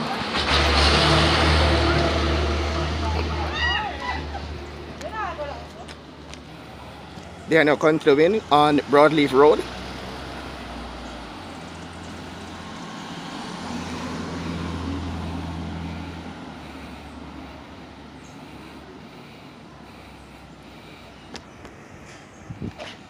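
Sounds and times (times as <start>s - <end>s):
cars moving slowly: 0.0s - 23.0s.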